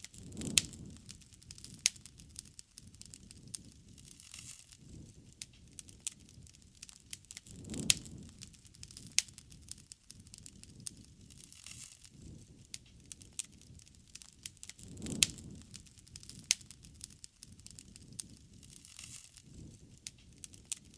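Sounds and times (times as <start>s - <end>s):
low rush of flames: 0.0s - 20.9s
wood fire crackling: 0.0s - 20.9s.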